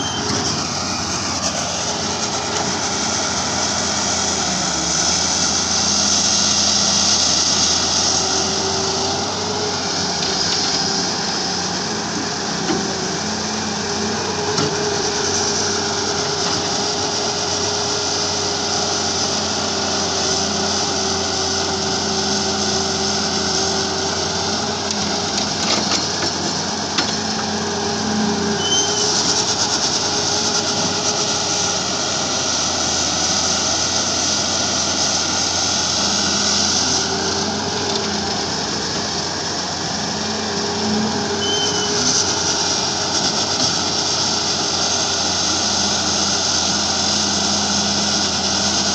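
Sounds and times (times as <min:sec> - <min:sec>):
excavator diesel engine under load: 0:00.0 - 0:48.9.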